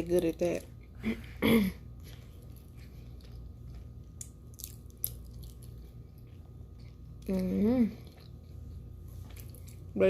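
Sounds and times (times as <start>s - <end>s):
person chewing food: 0.6s - 10.0s.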